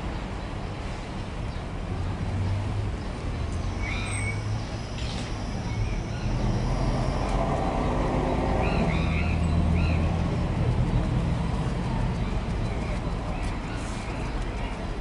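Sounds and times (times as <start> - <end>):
traffic engine hum: 0.0 - 15.0.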